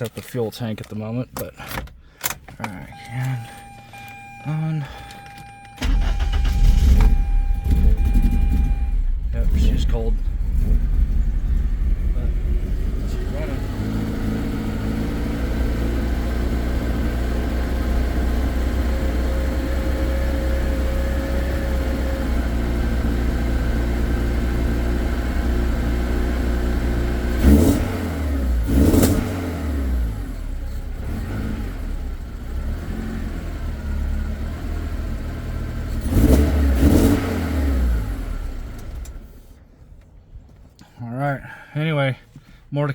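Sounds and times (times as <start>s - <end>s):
car engine idling and revving: 0.0s - 41.6s.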